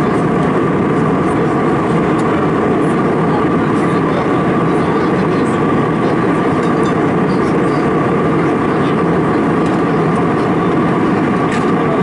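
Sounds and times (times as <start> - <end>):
faint steady whine: 0.0 - 12.0
jet engine and airflow roar: 0.0 - 12.0.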